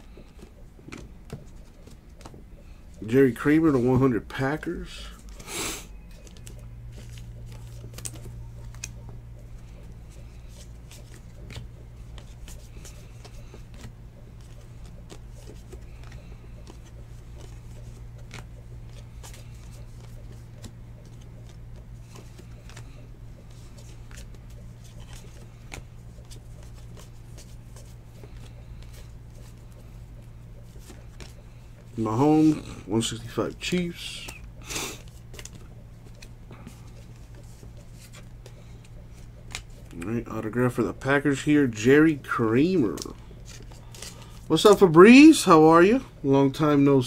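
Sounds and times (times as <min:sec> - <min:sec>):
steady low hum: 0:00.0 - 0:47.0
trading cards clicking and rustling: 0:00.0 - 0:47.0.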